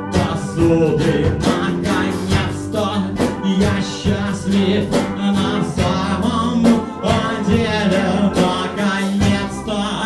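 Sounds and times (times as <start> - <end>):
electric guitar: 0.0 - 9.9
bass guitar: 0.0 - 10.0
drums: 0.0 - 10.0
person singing: 0.0 - 10.0.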